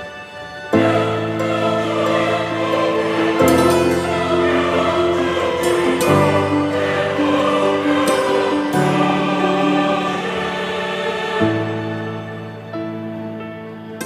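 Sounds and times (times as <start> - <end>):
choral or orchestral chords: 0.0 - 14.0.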